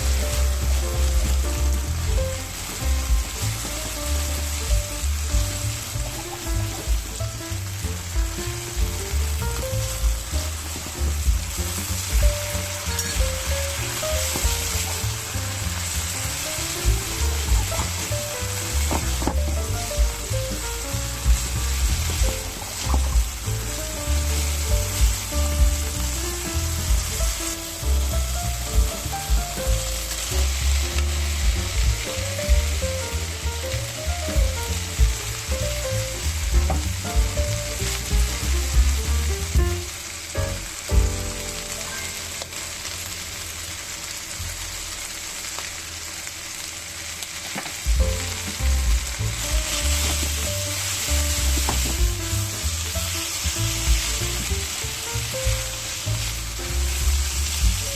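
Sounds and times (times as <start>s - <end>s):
light background music: 0.0s - 43.5s, 47.9s - 57.9s.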